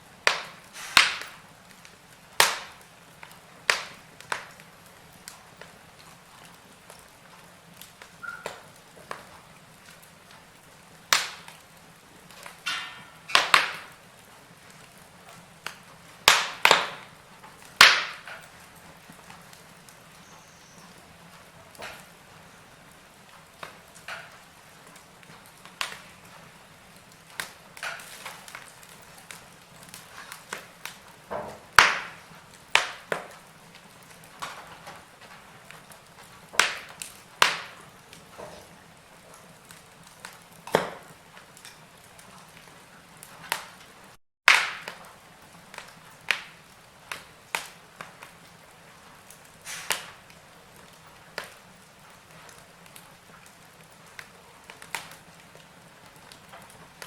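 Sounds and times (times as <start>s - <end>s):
burning logs crackling and popping: 0.0s - 57.0s
faint steady hiss: 0.0s - 57.0s.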